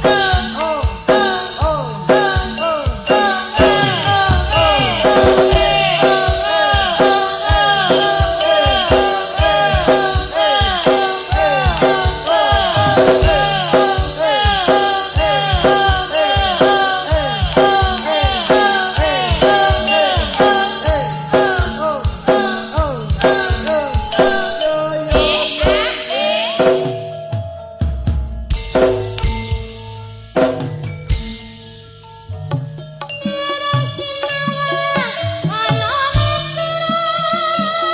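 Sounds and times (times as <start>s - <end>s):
gamelan ensemble music: 0.0s - 37.9s.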